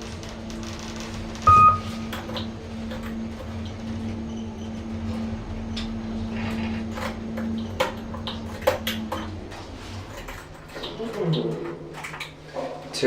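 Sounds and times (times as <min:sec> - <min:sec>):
lift electric hum: 0:00.0 - 0:13.0.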